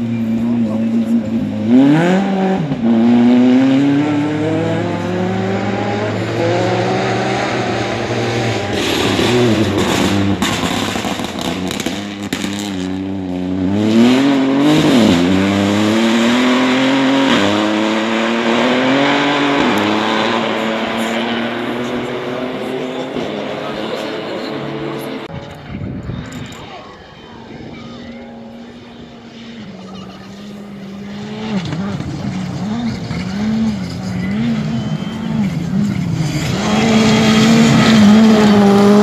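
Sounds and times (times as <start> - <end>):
rally car engines revving: 0.0 - 39.0.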